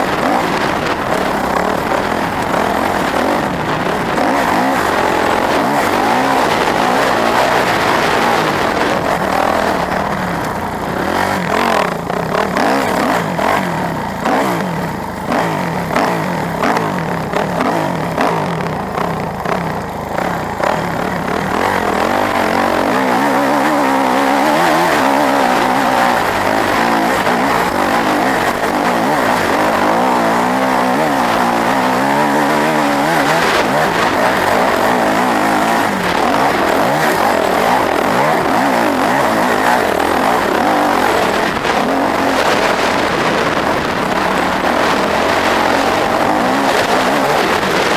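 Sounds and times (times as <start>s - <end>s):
engine revving: 0.0s - 47.9s
rushing noise: 0.0s - 47.9s.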